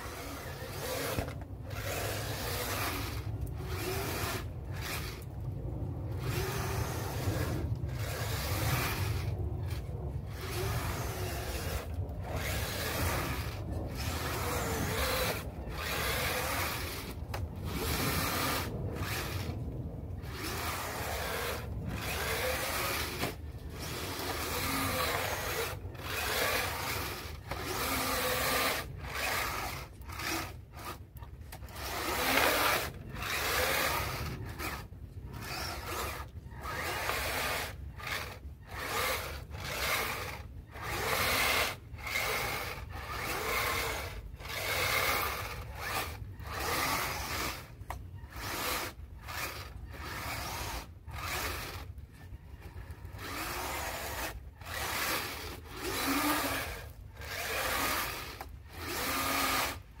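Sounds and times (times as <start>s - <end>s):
electric motor and gearbox whining: 0.0s - 60.0s
tracks grinding over slush: 0.0s - 60.0s.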